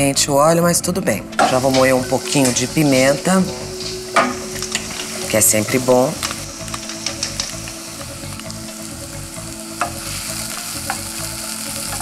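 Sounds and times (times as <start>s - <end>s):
onions sizzling in oil: 1.3s - 12.0s.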